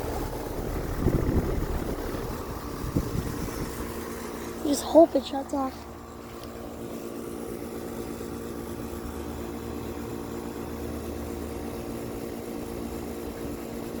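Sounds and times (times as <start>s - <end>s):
air conditioner compressor hum: 0.0s - 14.0s
condenser fan rumble: 0.0s - 14.0s.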